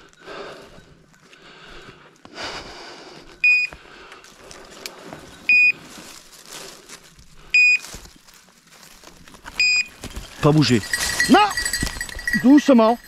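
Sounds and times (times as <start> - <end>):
brush and twigs rustling: 0.0 - 2.6, 3.2 - 13.0.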